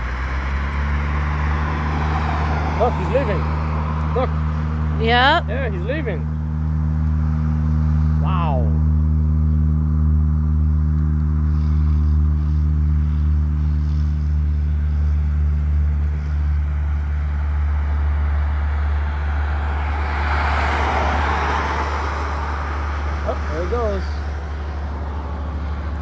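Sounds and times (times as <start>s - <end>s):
aircraft engine rushing: 0.0s - 26.0s
low engine hum: 0.0s - 26.0s.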